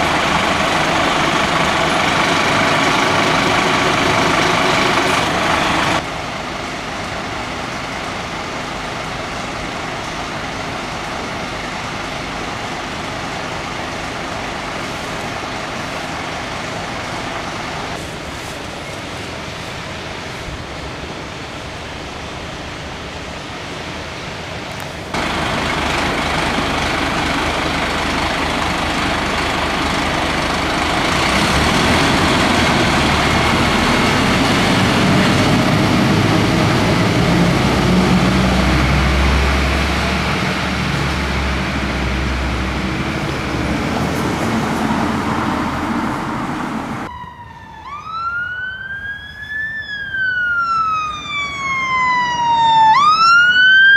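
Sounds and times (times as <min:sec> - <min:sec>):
fire engine siren wailing: 0:00.0 - 0:18.5, 0:19.6 - 0:53.9
diesel engine rumbling: 0:00.0 - 0:53.9
road noise: 0:00.0 - 0:53.9.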